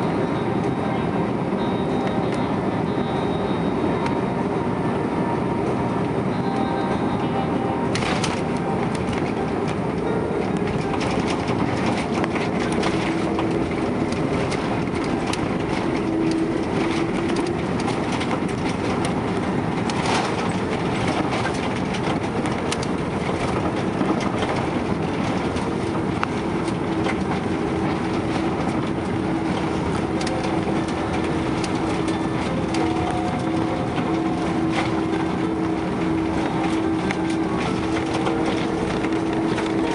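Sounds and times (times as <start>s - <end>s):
airliner cabin rumble: 0.0s - 39.9s
humming tone: 0.0s - 39.9s.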